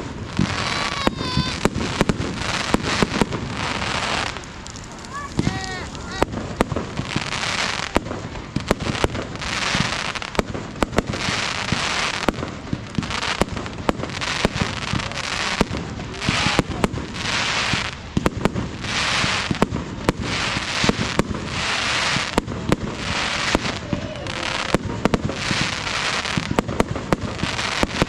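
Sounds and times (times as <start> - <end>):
fireworks bangs: 0.0 - 28.0
fireworks hiss: 0.0 - 28.0.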